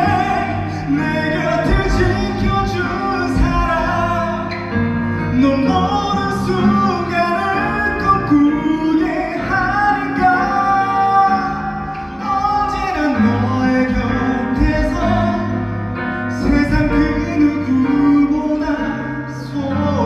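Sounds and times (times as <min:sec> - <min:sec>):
man singing a ballad: 0:00.0 - 0:20.0
piano and keyboard backing track: 0:00.0 - 0:20.0.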